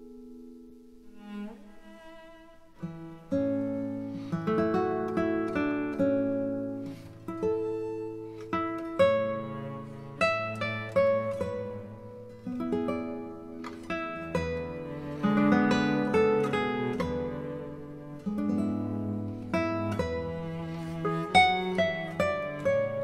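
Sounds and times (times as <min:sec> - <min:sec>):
plucked acoustic guitar: 0:00.0 - 0:23.0.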